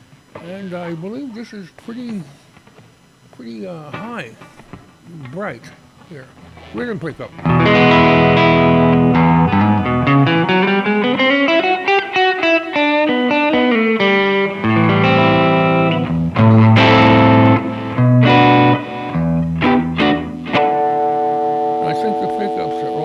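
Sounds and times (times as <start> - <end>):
electric guitar chords and notes: 2.7 - 23.0.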